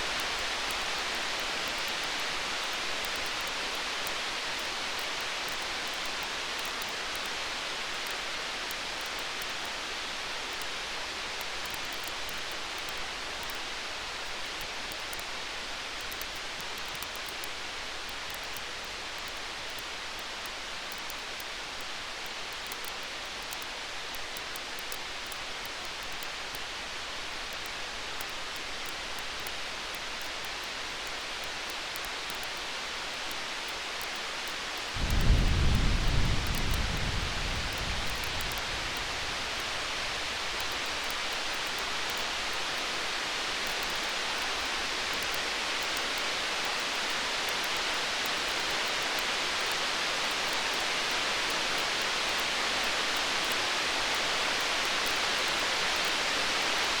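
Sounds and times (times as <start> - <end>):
campfire hissing and crackling: 0.0 - 57.0.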